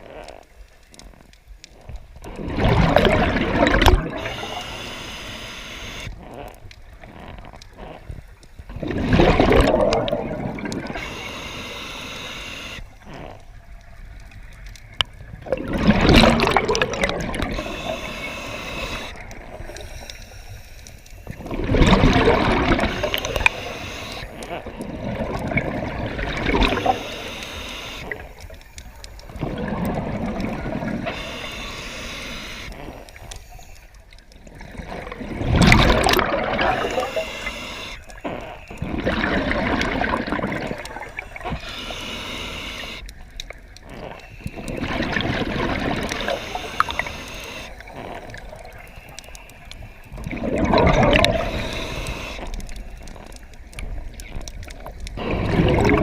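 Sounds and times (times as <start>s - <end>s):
water sloshing and gurgling: 0.0s - 56.0s.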